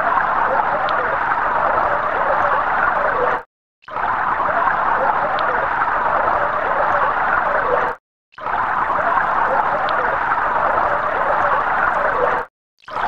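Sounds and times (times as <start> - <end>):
synthesized water pouring: 0.0 - 3.2, 3.8 - 13.0.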